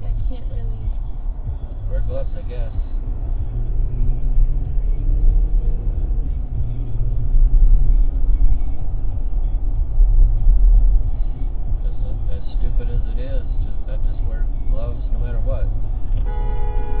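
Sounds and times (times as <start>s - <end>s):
car engine rumble: 0.0s - 17.0s
tyres on the road: 0.0s - 17.0s.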